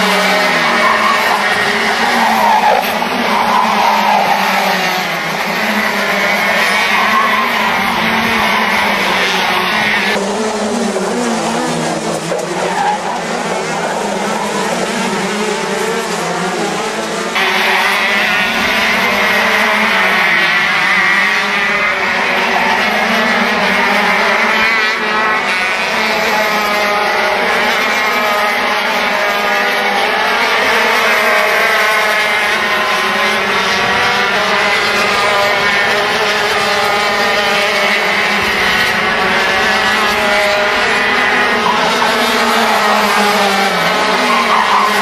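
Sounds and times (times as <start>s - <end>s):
kart engines at high revs: 0.0s - 45.0s.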